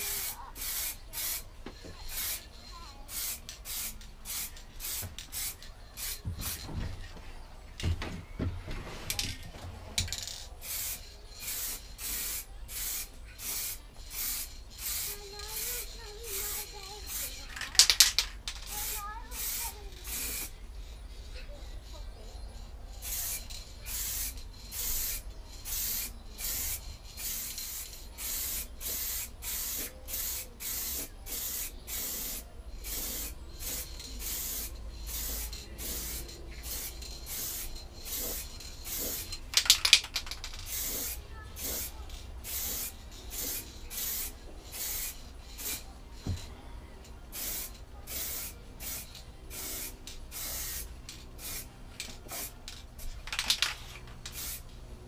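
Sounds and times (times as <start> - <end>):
spray paint can hissing: 0.0 - 6.8, 10.0 - 46.5, 47.3 - 54.7
spray can rattle: 0.0 - 6.9, 10.0 - 22.0, 22.9 - 46.5, 47.3 - 54.7.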